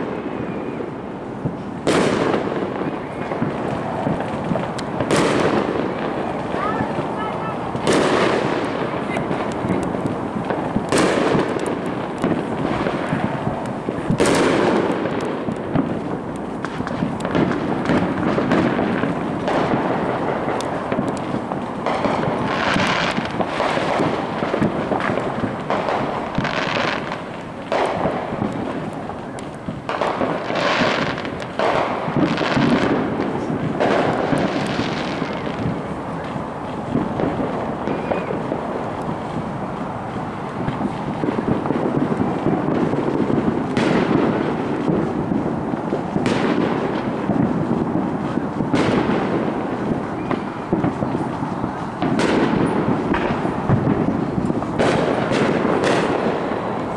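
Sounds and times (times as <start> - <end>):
fireworks bangs: 0.0 - 56.9
fireworks crackling pops: 0.0 - 56.9
steady background noise: 0.0 - 56.9.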